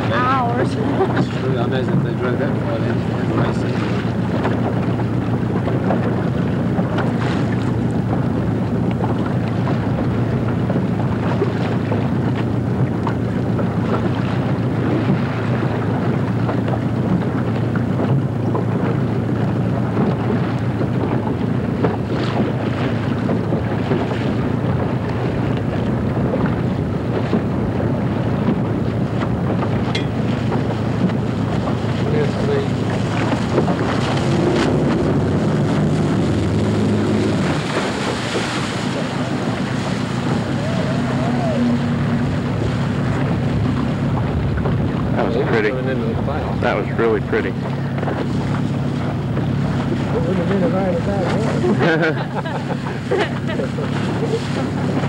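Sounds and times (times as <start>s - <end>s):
water washing around boat: 0.0s - 55.0s
wind buffeting microphone: 0.0s - 55.0s.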